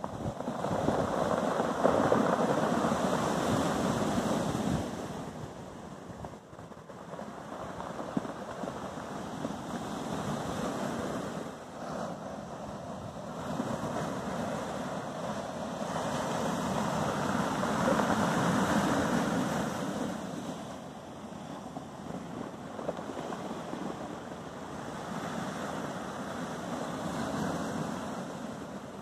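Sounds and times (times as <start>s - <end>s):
waves washing over pebbles: 0.0s - 29.0s
wind: 0.0s - 29.0s.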